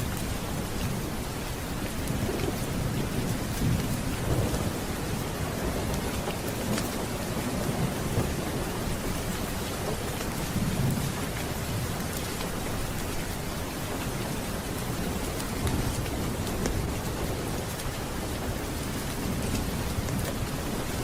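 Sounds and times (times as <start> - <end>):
heavy rain: 0.0 - 21.0
thunder rumbling: 0.0 - 21.0.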